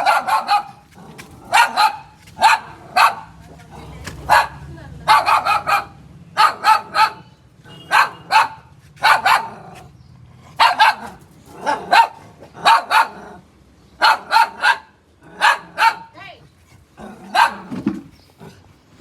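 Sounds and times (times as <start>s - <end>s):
dog barking: 0.0s - 9.9s, 10.5s - 13.4s, 14.0s - 16.2s, 17.1s - 17.8s.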